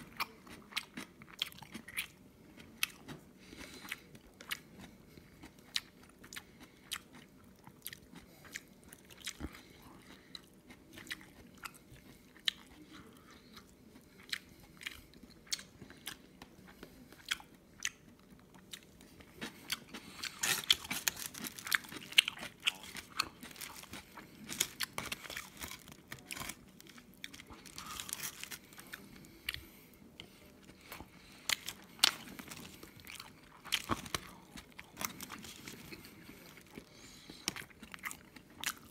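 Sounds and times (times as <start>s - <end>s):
crunchy crackling chewing: 0.0s - 38.9s.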